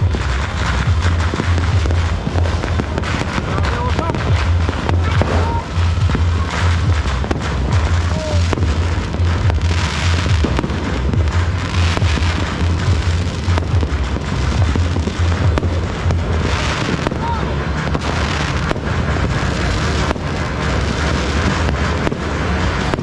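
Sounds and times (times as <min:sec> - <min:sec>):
fireworks crackling and banging: 0:00.0 - 0:23.0
steady low hum: 0:00.0 - 0:23.0.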